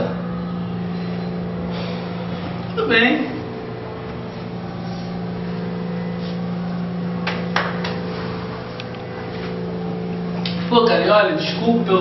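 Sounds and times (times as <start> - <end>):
low hum of held tones: 0.0 - 12.0.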